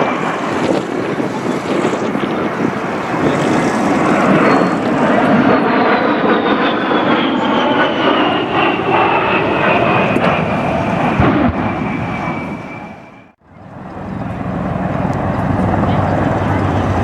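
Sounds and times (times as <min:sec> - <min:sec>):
jet aircraft engines roaring: 0:00.0 - 0:17.0.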